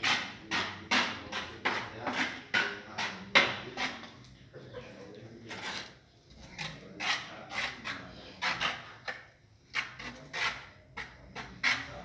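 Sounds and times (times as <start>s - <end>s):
trowel scraping mortar on tile: 0.0s - 4.2s, 5.4s - 12.0s.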